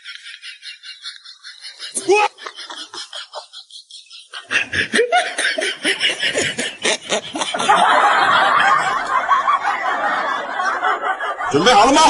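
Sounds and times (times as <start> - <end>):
laughter in bursts: 0.0 - 12.0.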